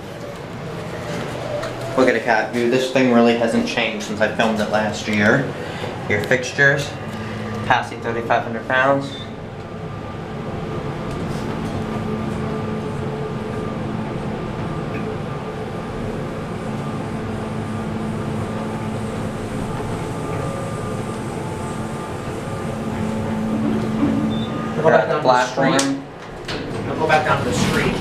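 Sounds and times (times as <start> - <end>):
elevator humming: 0.0 - 28.0.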